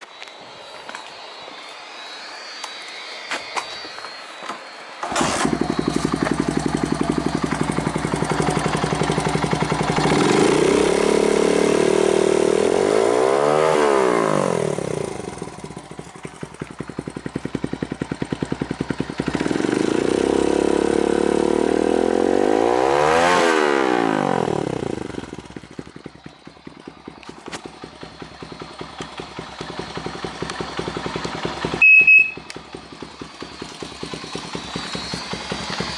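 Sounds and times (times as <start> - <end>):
motorbike engine starting and revving: 5.0 - 35.9.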